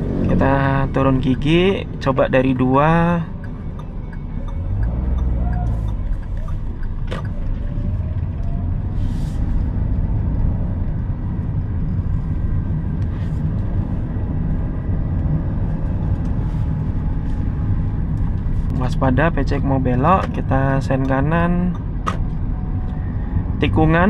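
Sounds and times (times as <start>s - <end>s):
car engine running: 0.0s - 24.0s
road rumble: 0.0s - 24.0s.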